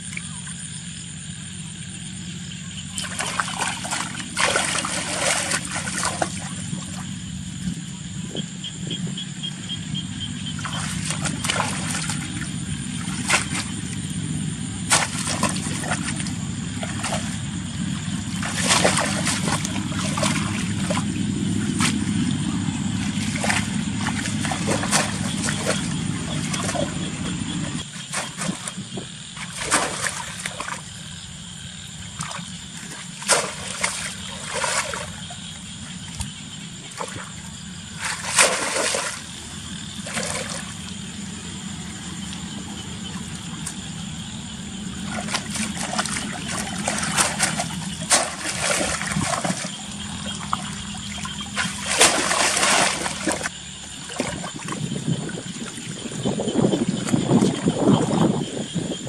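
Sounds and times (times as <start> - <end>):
steady low hum: 0.0 - 59.0
water splashing and sloshing: 0.0 - 59.0.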